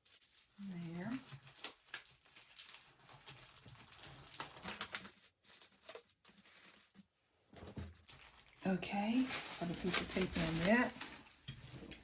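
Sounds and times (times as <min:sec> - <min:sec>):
tissue paper rustling: 0:00.0 - 0:07.2, 0:08.0 - 0:12.0.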